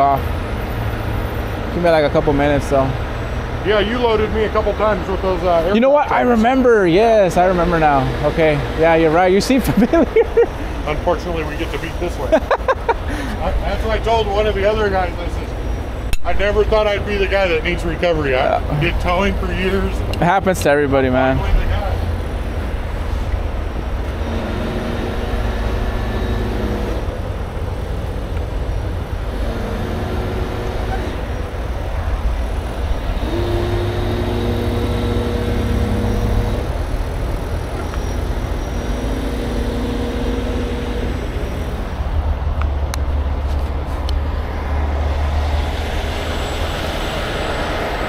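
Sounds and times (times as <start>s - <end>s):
diesel engine shifting gears: 0.0s - 48.0s
road noise rumble: 0.0s - 48.0s.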